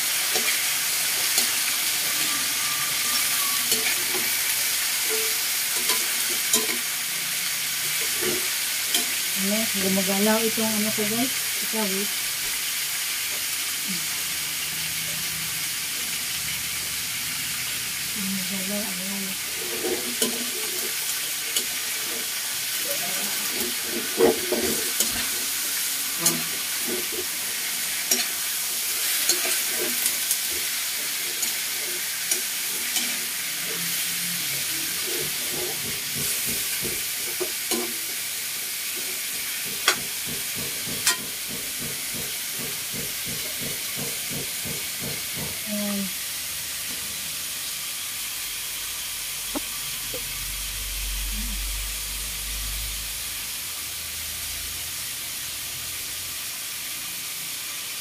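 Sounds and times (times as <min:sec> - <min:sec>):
meat sizzling in hot oil: 0:00.0 - 0:58.0.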